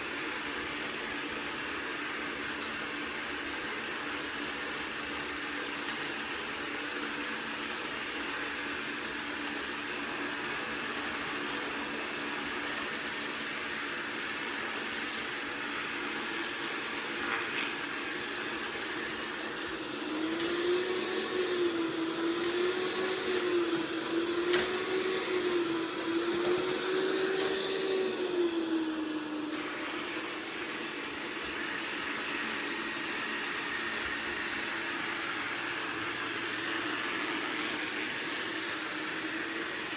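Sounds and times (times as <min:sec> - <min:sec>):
robot vacuum motor whir: 0:00.0 - 0:39.9.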